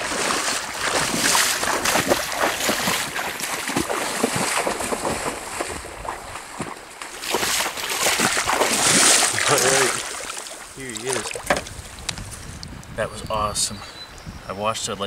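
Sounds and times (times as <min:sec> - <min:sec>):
water sloshing around legs: 0:00.0 - 0:12.1.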